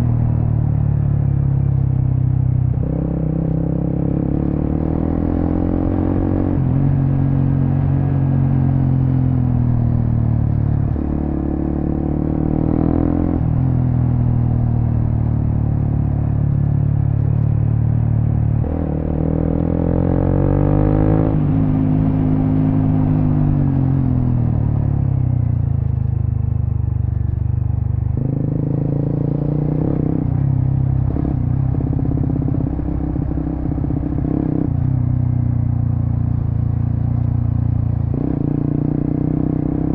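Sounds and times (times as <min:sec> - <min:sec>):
motorcycle engine revving: 0:02.6 - 0:26.4, 0:27.1 - 0:39.9.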